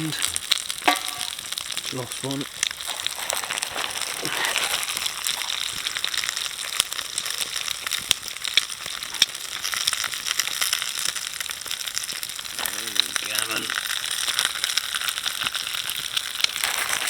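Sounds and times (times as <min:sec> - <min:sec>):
chips sizzling in hot oil: 0:00.0 - 0:17.0
oil crackling and popping: 0:00.0 - 0:17.0.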